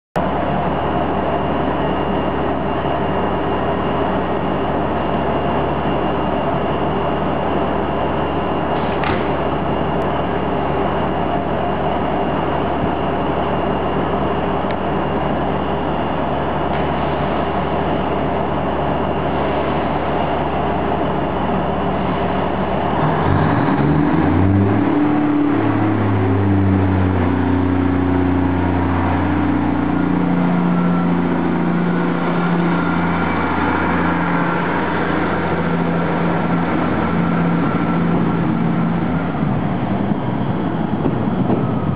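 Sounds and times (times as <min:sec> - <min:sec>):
diesel railcar engine: 0:00.2 - 0:41.9.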